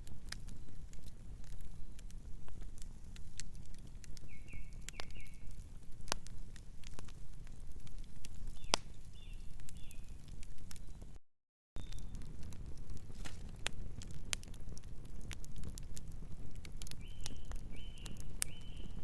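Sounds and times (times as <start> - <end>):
sharp pops of fire: 0.0 - 10.8, 11.8 - 19.0
wood fire crackling: 0.0 - 11.2, 11.8 - 19.0.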